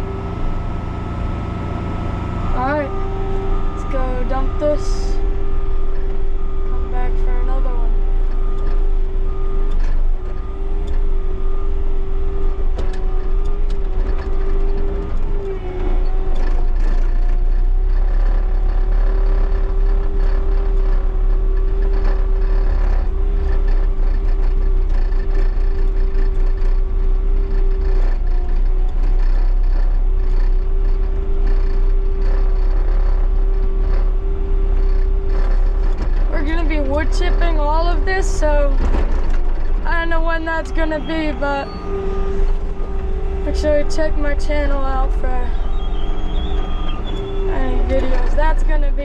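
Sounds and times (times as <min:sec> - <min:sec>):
continuous high whine: 0:00.0 - 0:49.0
diesel engine running: 0:00.0 - 0:49.0.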